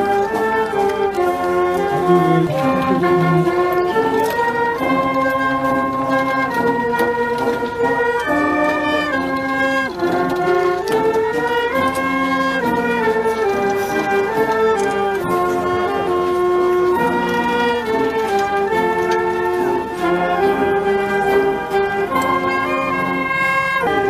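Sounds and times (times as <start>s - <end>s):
slow brass music: 0.0s - 24.0s.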